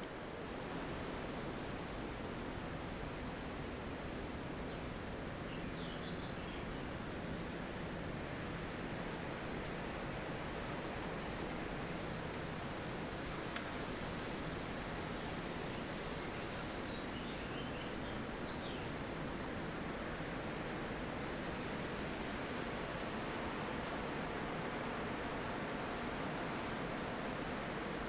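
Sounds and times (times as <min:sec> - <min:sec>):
wind rushing through trees: 0:00.0 - 0:28.0.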